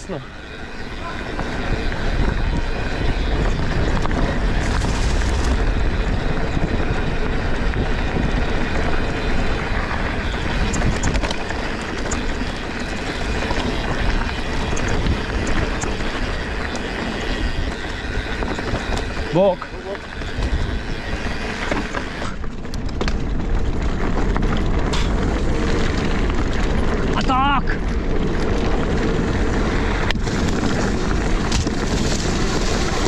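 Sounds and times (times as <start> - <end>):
bike tyres rumbling over trail: 0.0 - 33.0
wind buffeting microphone: 0.0 - 33.0.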